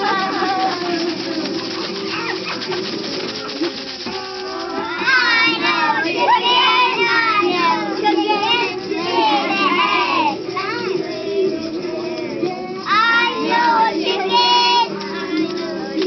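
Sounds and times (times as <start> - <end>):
children calling in chorus: 0.0 - 3.3, 4.0 - 16.0.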